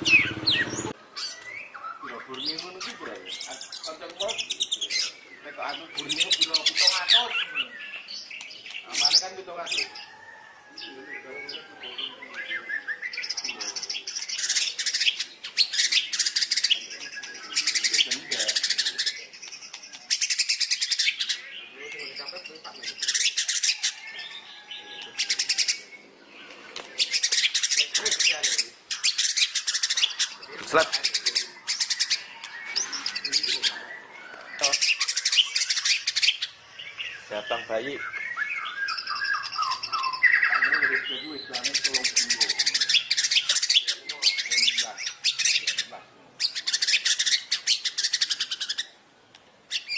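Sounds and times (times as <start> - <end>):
fast rattling bird chatter: 0.0 - 1.0, 2.0 - 11.6, 12.6 - 49.0
songbird singing: 0.0 - 49.9.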